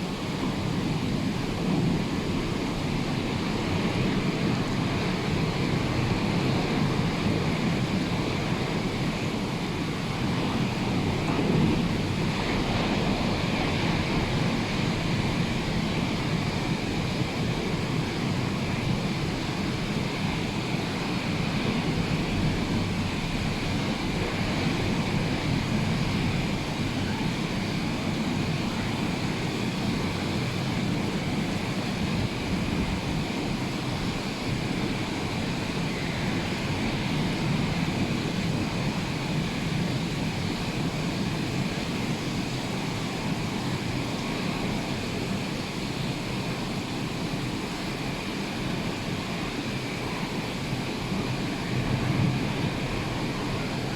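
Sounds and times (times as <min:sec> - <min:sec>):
wind buffeting microphone: 0:00.0 - 0:45.3
rough sea surf roaring: 0:00.0 - 0:53.9.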